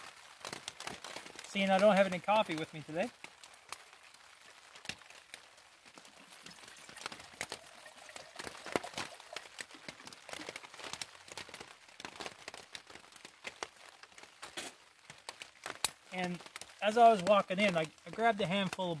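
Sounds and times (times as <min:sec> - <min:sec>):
rain tapping on plastic tarp: 0:00.0 - 0:19.0.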